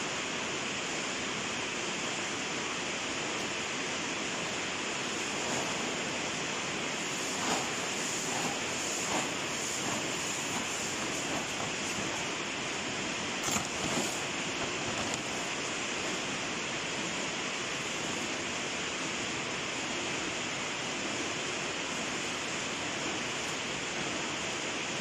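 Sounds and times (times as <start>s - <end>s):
factory machinery noise: 0.0s - 25.0s.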